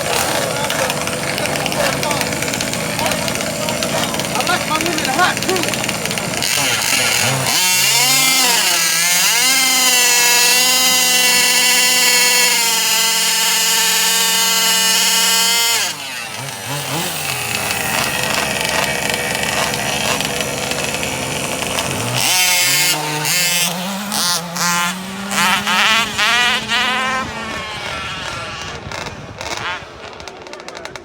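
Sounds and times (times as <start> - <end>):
two-stroke engine revving: 0.0 - 31.0.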